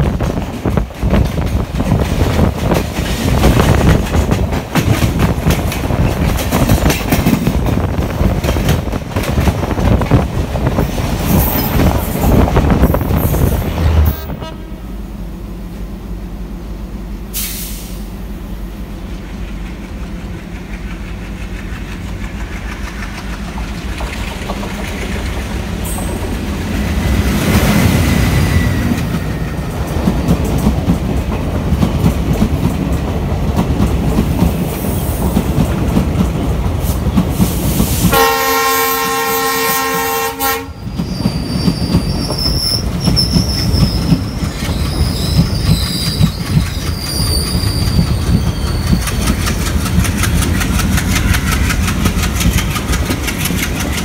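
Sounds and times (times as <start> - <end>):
train coaches clattering past: 0.0 - 14.9, 17.3 - 54.0
steady train rumble: 0.0 - 54.0.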